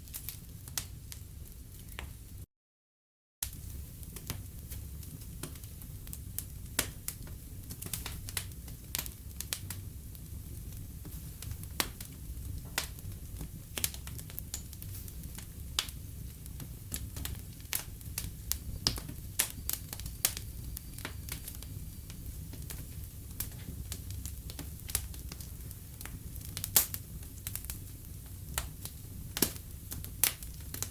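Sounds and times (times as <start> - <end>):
wood fire crackling: 0.0 - 2.4, 3.4 - 30.9.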